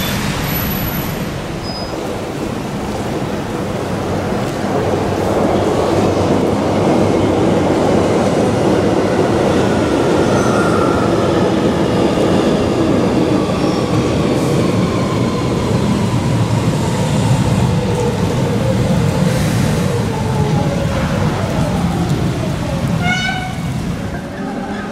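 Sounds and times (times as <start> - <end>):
tram wheels rumbling on rails: 0.0 - 24.9.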